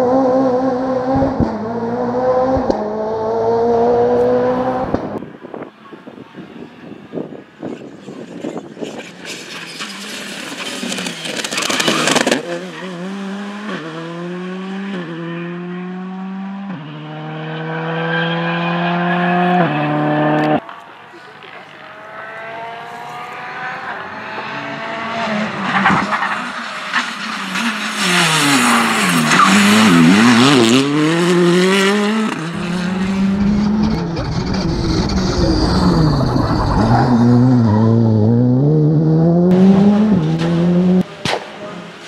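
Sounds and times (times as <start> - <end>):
rally car engines revving: 0.0 - 6.1, 7.1 - 42.0.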